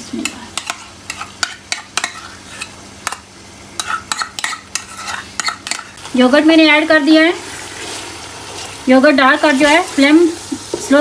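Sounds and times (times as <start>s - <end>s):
low sizzle: 0.0s - 11.0s.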